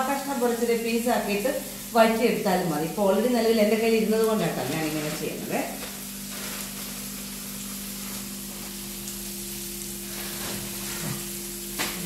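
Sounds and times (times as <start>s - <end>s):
onions sizzling in frying pan: 0.0s - 12.0s.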